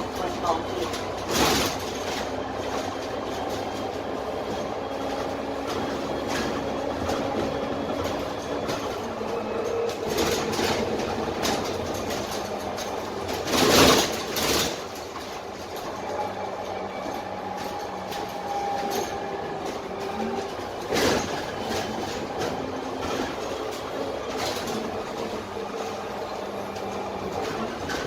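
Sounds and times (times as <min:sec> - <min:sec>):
bus engine humming and whining: 0:00.0 - 0:28.0
road noise: 0:00.0 - 0:28.0.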